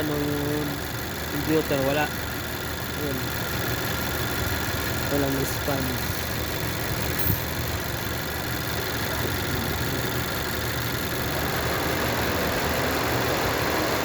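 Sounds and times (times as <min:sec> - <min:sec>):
car engine idling and misfiring: 0:00.0 - 0:14.0.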